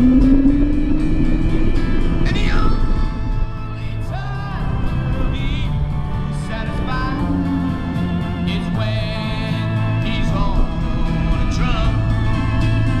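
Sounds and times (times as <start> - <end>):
song with wavering vocals: 0.0 - 13.0.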